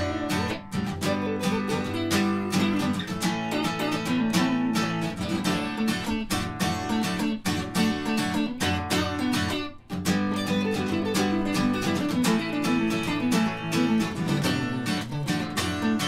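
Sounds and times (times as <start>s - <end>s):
acoustic guitar strumming: 0.0s - 16.0s
electric guitar playing: 0.0s - 16.0s.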